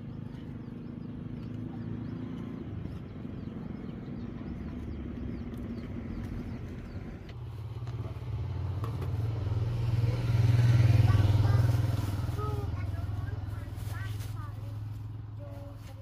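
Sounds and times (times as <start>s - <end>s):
approaching vehicle engine: 0.0s - 16.0s
vehicle engine running: 0.0s - 16.0s.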